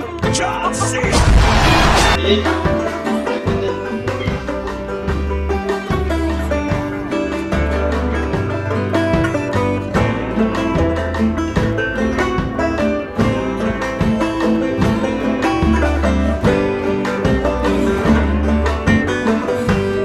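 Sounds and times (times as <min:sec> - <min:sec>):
upbeat plucked string music: 0:00.0 - 0:20.0.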